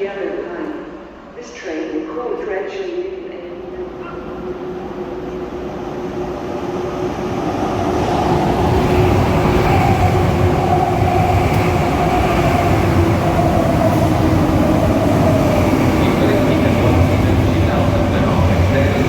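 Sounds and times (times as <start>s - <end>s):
electric train rumble and whine: 3.2s - 19.0s.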